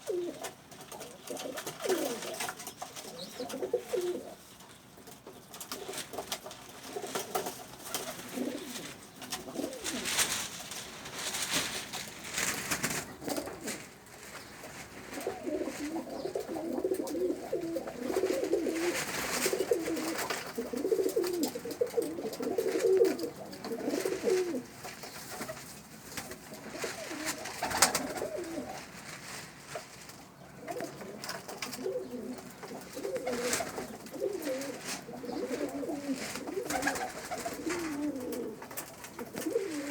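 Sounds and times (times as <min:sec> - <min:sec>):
pigeons cooing: 0:00.0 - 0:04.6, 0:05.6 - 0:10.5, 0:12.9 - 0:25.6, 0:26.4 - 0:29.0, 0:30.4 - 0:39.9
wing flutters and knocks: 0:05.1 - 0:39.9.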